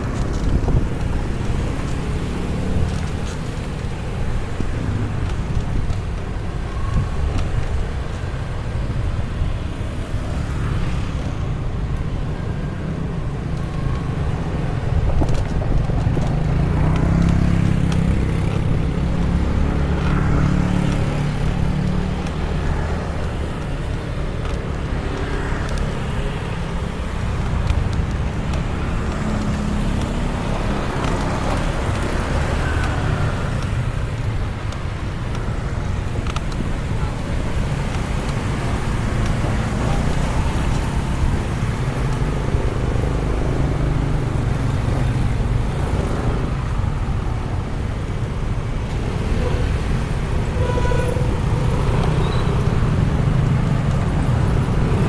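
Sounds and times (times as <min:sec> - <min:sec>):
street traffic: 0:00.0 - 0:55.0
wind rumbling on microphone: 0:00.0 - 0:55.0.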